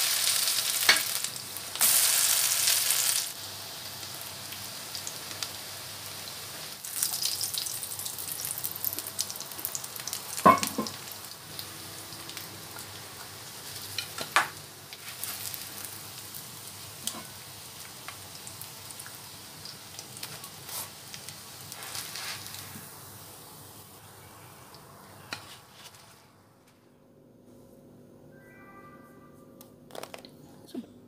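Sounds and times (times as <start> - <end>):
patties sizzling in oil: 0.0 - 25.4.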